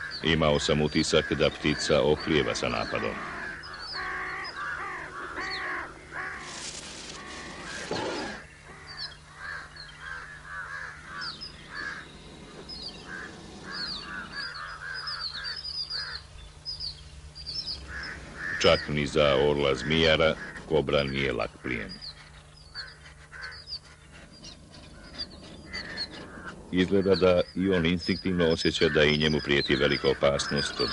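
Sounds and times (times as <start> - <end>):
crows cawing: 0.0 - 16.4, 17.5 - 30.9
small birds chirping: 0.0 - 30.9.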